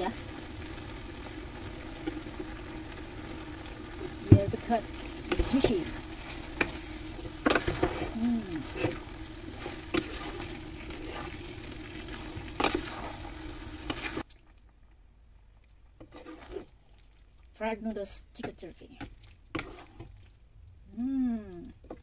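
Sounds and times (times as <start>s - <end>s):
noodles sizzling in a pan: 0.0s - 14.4s, 16.0s - 20.4s.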